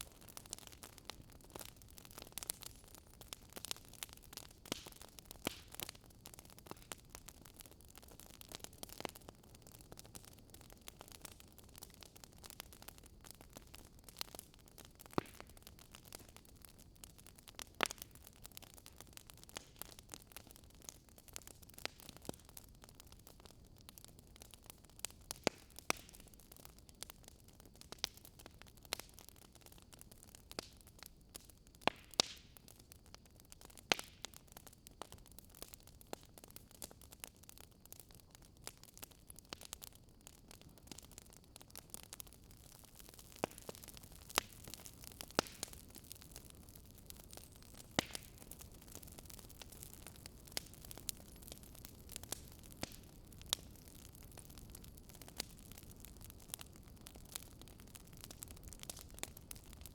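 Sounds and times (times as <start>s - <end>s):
faint steady hiss: 0.0s - 59.9s
wood fire crackling: 0.0s - 59.9s.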